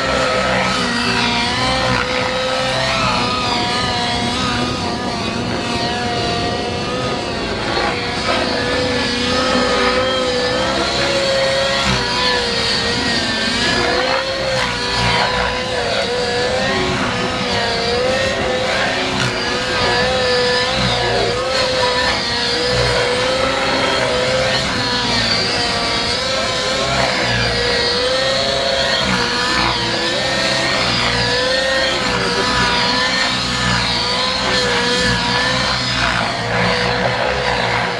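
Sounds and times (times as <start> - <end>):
model aircraft engine: 0.0 - 37.9.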